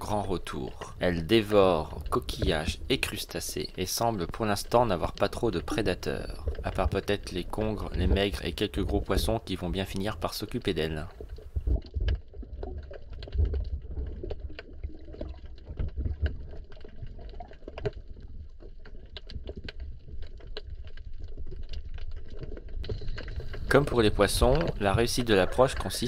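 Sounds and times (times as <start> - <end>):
low rumble of moving water: 0.0 - 26.0
small clicks and crackles: 0.0 - 26.0.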